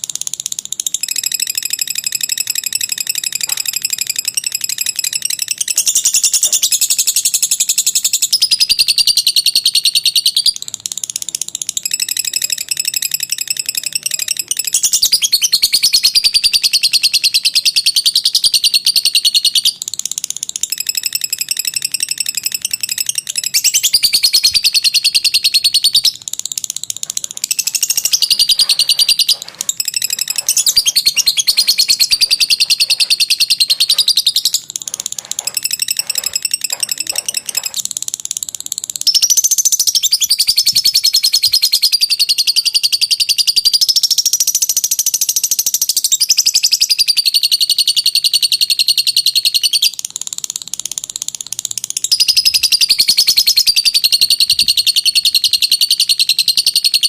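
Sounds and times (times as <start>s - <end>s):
lovebird chattering trill: 0.1s - 57.0s.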